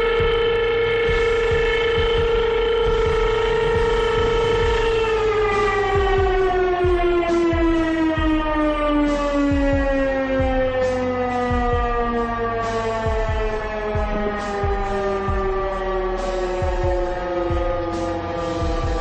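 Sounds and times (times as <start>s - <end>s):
motor-driven siren winding down: 0.0s - 19.0s.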